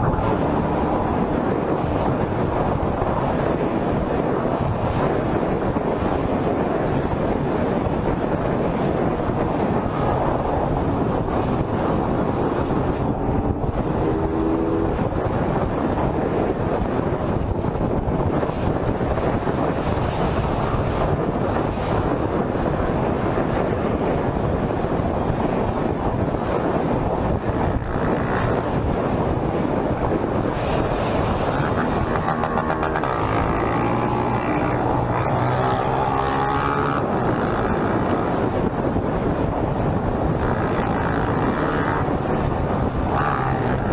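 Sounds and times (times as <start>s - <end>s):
motorcycle moving at speed: 0.0s - 43.9s
wind rushing: 0.0s - 43.9s.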